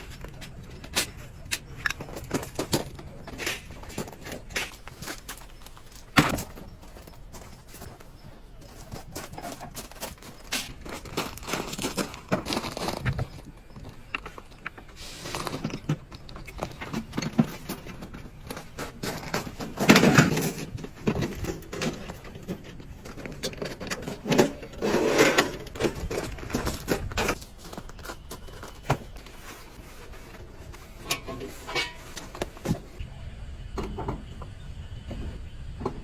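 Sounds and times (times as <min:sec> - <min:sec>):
handling clicks and knocks: 0:00.0 - 0:33.0
rustling: 0:00.0 - 0:33.0.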